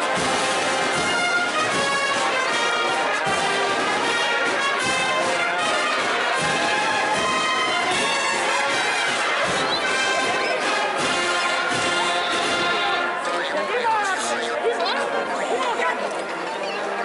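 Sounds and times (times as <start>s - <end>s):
brass band playing a slow march: 0.0s - 17.0s.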